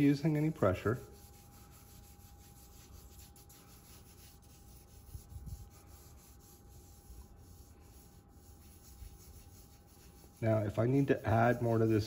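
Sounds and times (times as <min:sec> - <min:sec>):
charcoal scratching on paper: 0:01.1 - 0:12.0.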